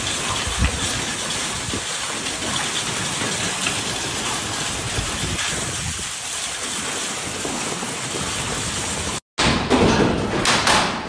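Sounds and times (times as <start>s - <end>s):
hail pattering on paving: 0.0s - 9.2s.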